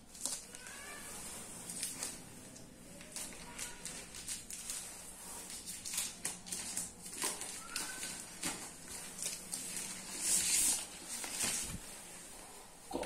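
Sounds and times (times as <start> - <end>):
plastic film crinkling: 0.0 - 12.3.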